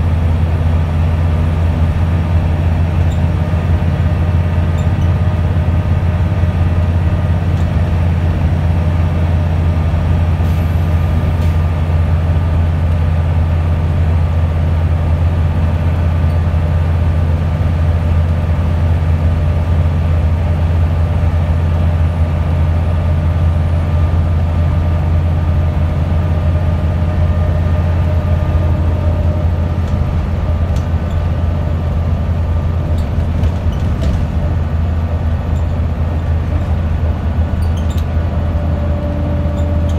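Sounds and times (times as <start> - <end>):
bus engine drone: 0.0 - 39.9
road and tyre noise: 0.0 - 39.9.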